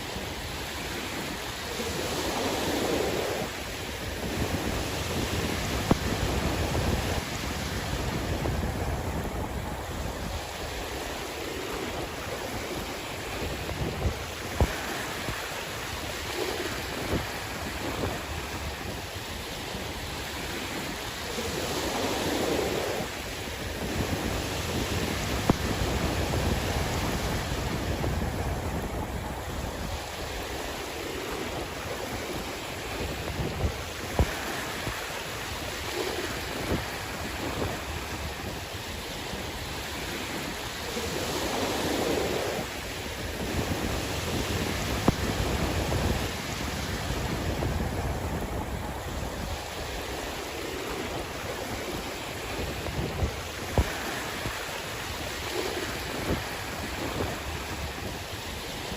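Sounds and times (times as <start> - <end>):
sea waves washing ashore: 0.0 - 58.9
wind rumble on microphone: 0.0 - 58.9.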